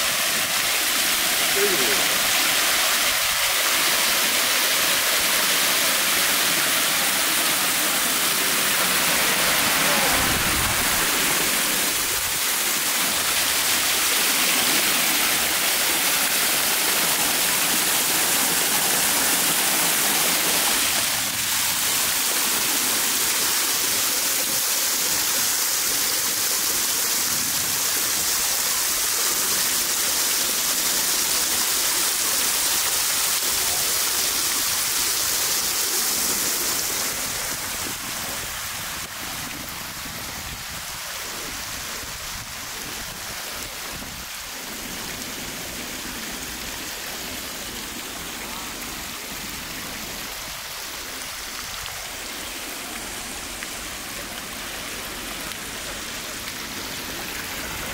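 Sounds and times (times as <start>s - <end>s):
fountain water splashing: 0.0s - 57.9s.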